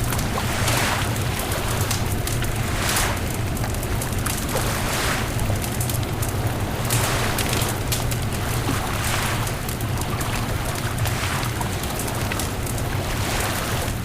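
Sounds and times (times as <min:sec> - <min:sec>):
bonfire crackling and popping: 0:00.0 - 0:13.9
steady low rumble: 0:00.0 - 0:14.0.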